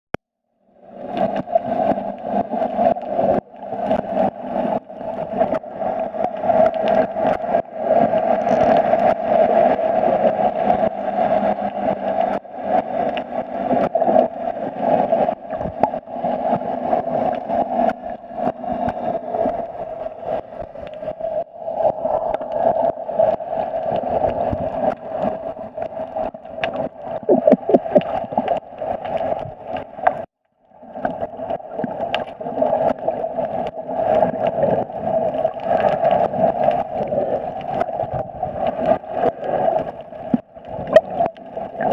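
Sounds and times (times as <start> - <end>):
muffled underwater drone: 0.4 - 41.9
crackling and bubbling: 0.8 - 41.9.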